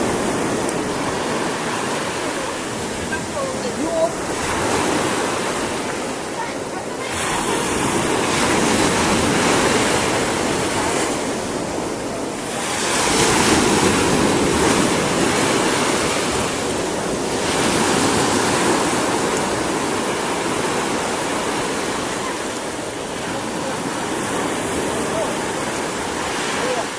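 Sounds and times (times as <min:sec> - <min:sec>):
surf waves breaking: 0:00.0 - 0:26.9.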